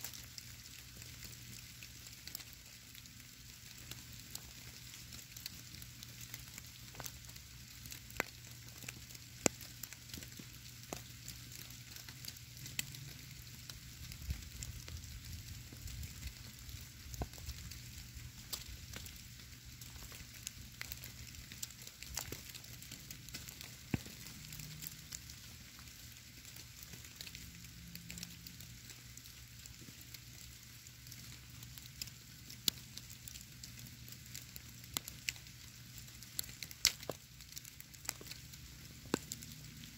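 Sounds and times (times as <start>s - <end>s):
tiny ticks of snowflakes: 0.0s - 39.9s.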